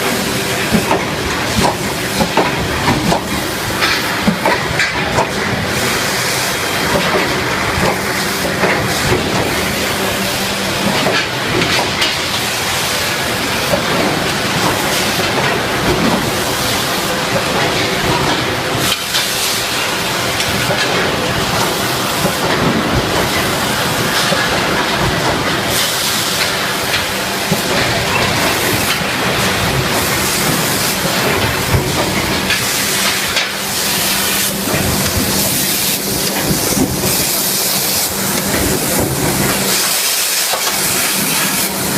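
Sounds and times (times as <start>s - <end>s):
forging machinery running: 0.0s - 41.9s.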